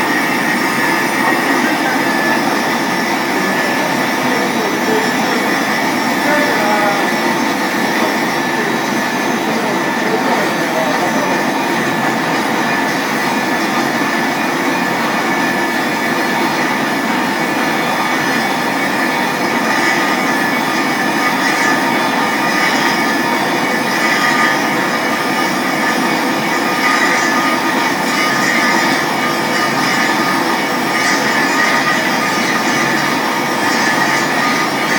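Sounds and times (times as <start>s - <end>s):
pipe cleaning machine running: 0.0s - 34.9s.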